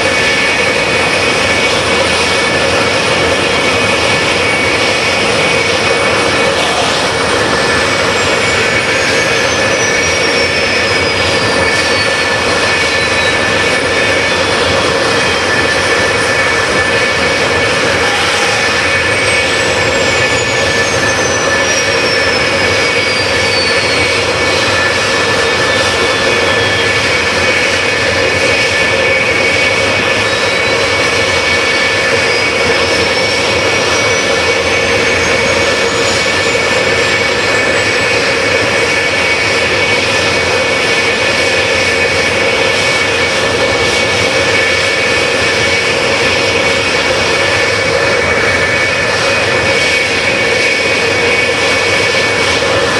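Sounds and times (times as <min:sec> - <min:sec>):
jet engines idling: 0:00.0 - 0:52.9.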